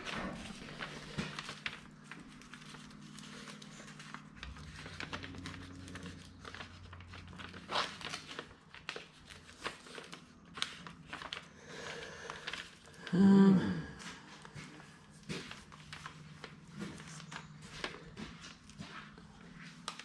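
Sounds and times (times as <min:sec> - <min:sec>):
paper crinkling and rustling: 0:00.0 - 0:13.1, 0:14.2 - 0:20.0.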